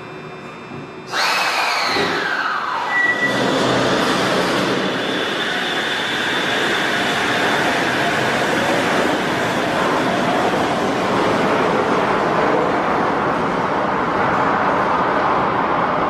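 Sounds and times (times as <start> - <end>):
train rushing with high whine: 0.0 - 16.0.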